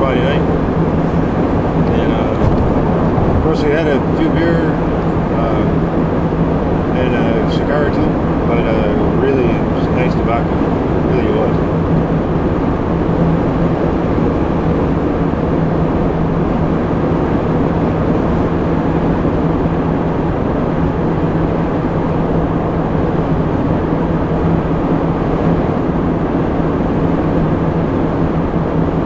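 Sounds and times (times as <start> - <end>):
low hum: 0.0 - 29.0
road and engine noise in car: 0.0 - 29.0.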